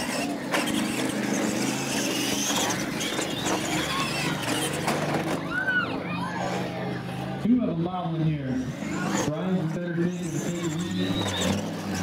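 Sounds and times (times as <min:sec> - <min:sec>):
rc truck motors running: 0:00.0 - 0:07.4, 0:08.5 - 0:12.0.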